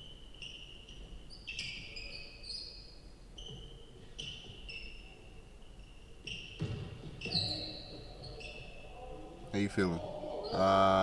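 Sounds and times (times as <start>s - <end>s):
shoes squeaking on gym floor: 0.0s - 8.9s.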